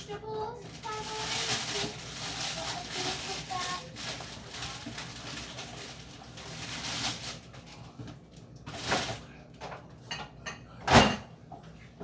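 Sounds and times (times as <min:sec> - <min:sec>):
rummaging in a refrigerator: 0:00.0 - 0:12.0.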